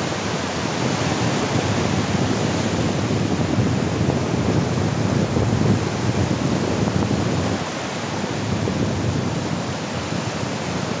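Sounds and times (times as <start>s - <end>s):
ocean surf washing ashore: 0.0s - 11.0s
wind buffeting microphone: 0.0s - 11.0s.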